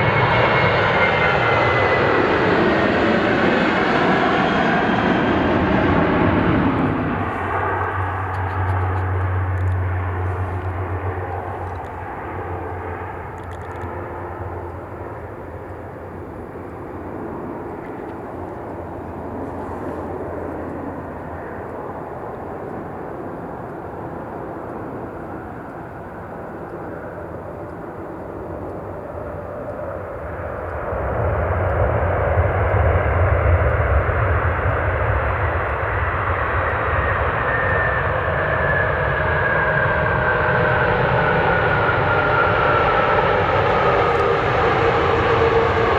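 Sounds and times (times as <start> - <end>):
high jet engine whine: 0.0 - 45.9
jet engines running: 0.0 - 45.9.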